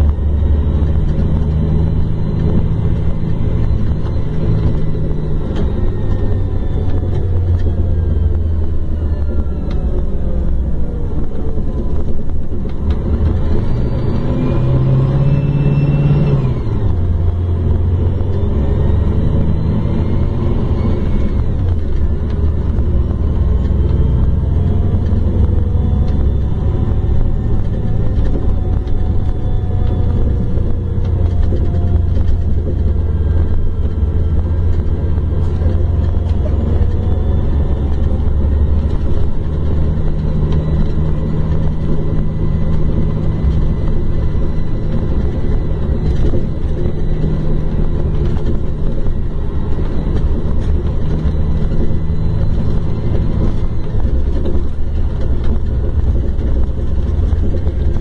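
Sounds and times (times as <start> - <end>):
diesel engine rumble: 0.0 - 58.0
faint whines: 0.0 - 58.0
steady low hum: 0.0 - 58.0.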